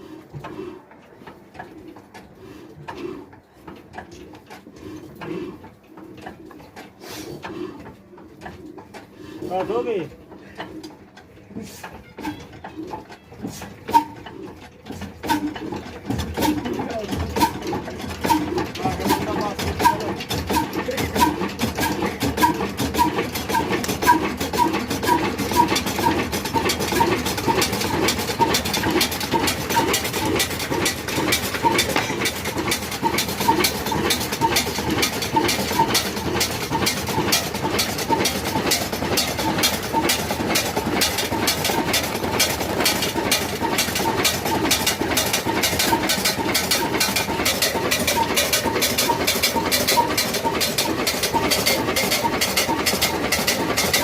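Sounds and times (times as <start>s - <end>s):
diesel engine running slowly: 0.0s - 54.0s.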